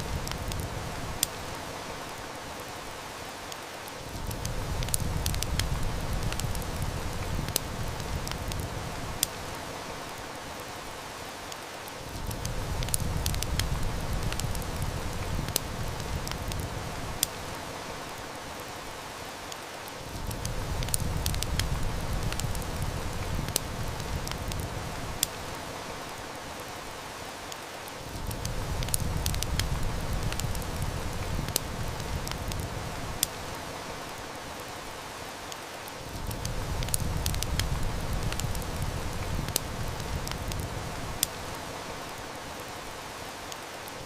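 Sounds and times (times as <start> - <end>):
heavy rain: 0.0 - 44.0
wood fire crackling: 0.0 - 44.0.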